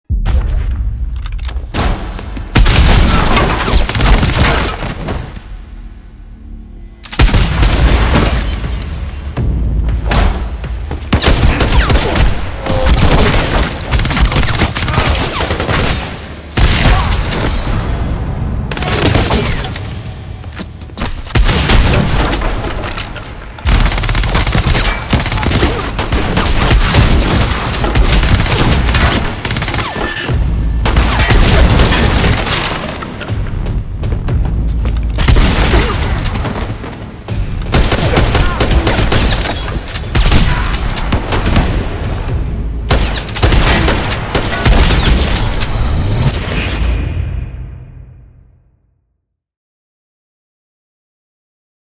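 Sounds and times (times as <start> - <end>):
hits and impacts with booms: 0.0 - 5.8, 7.0 - 48.8
music: 0.0 - 49.5.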